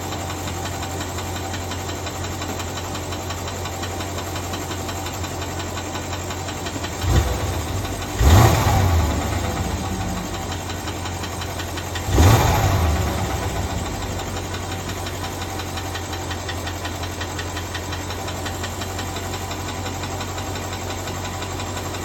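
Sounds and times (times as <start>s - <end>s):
car engine idling: 0.0s - 22.0s
fast ticking clatter: 0.0s - 22.0s.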